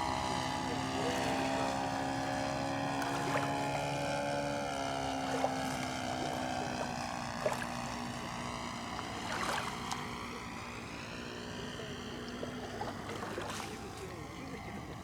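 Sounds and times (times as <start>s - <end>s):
model plane engine and propeller: 0.0s - 15.0s.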